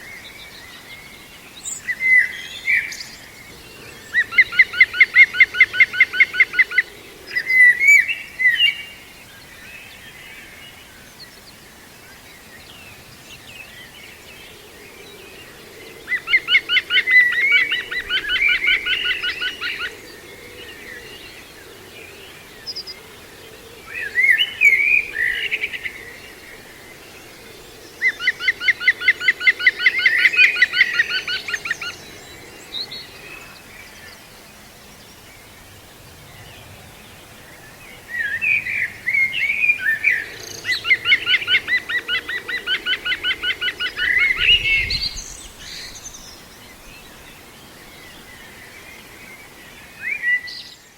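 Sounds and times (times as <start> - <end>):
chirping bird calls: 0.0 - 50.9.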